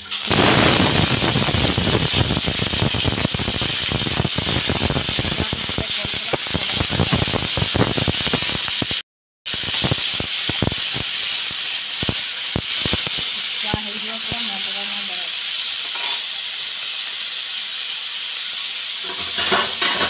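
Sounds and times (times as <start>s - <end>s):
prawns sizzling in hot oil: 0.0s - 20.0s.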